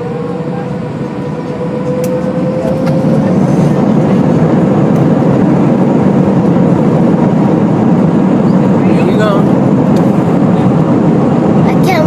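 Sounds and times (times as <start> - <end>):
jet engines spooling up: 0.0 - 12.0.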